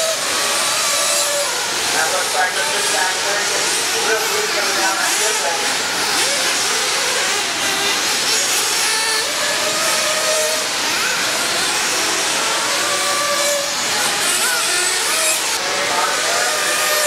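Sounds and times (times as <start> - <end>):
high electric motor whines: 0.0 - 17.0.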